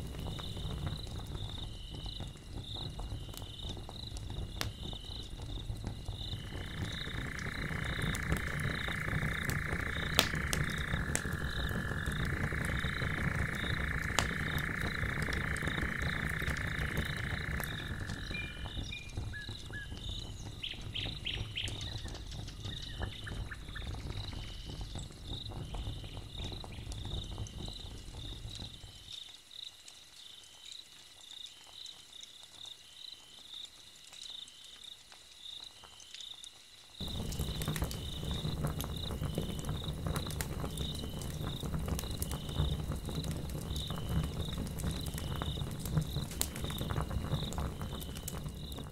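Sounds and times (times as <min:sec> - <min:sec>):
log fire crackling: 0:00.0 - 0:48.9
night insects chirping: 0:00.0 - 0:48.9.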